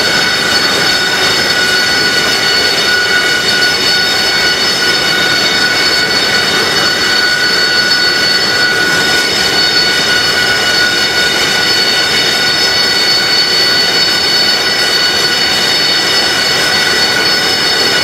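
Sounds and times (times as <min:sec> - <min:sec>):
jet engine idling whine: 0:00.0 - 0:18.0.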